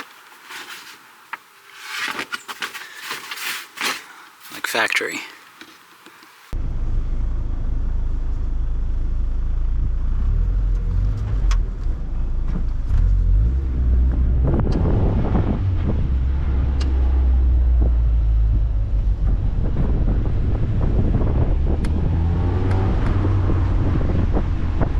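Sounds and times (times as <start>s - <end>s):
car engine and road rumble: 3.4s - 24.9s.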